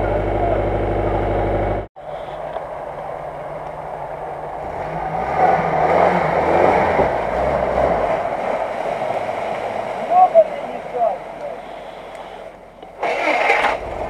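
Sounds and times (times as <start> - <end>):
off-road vehicle engine under load: 0.0 - 14.0
wheels splashing through water: 2.0 - 14.0.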